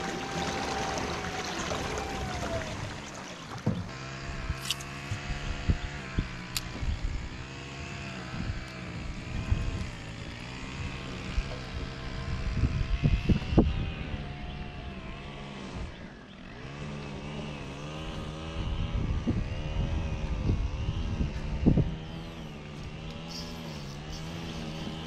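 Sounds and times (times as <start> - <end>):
boat motor humming: 0.0 - 25.0.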